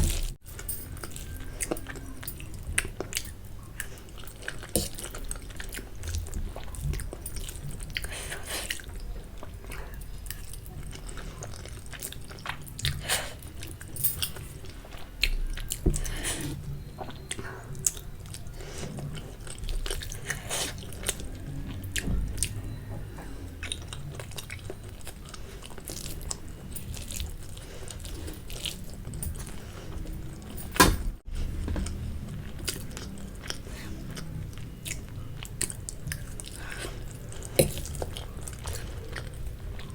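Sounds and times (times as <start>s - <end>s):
person chewing noodles: 0.0s - 39.9s.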